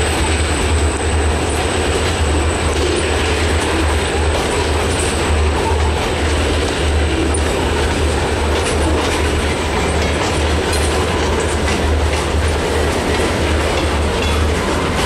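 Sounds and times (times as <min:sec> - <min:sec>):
steel wheels clattering over rail joints: 0:00.0 - 0:15.0.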